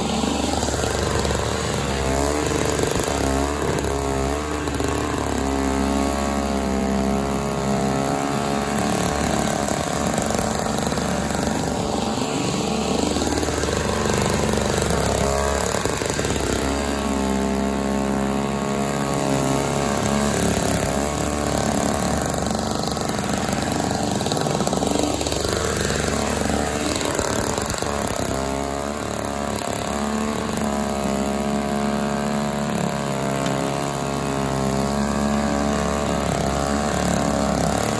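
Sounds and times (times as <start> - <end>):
snowblower engine running: 0.0 - 37.9.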